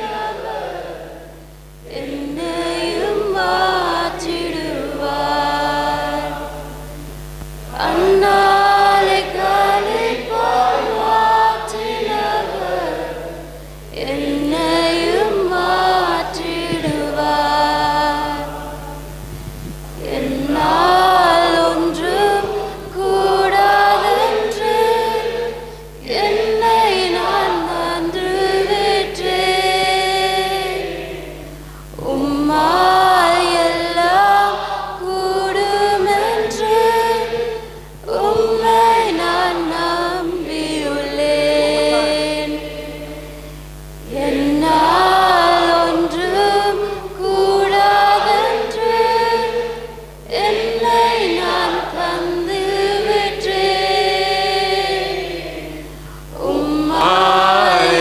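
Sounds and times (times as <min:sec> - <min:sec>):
group singing a worship song: 0:00.0 - 0:58.0.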